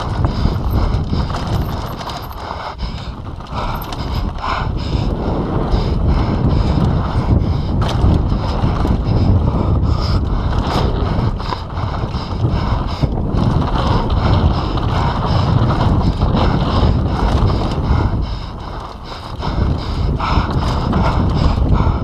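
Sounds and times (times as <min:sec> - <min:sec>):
bike rattling on boardwalk and dirt: 0:00.0 - 0:22.0
wind buffeting microphone: 0:00.0 - 0:22.0.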